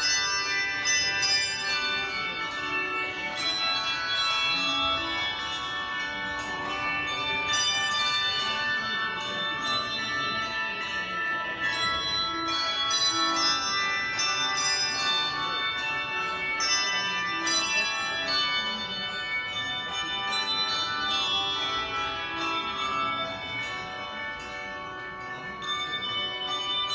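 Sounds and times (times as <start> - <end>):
bells ringing: 0.0 - 26.9.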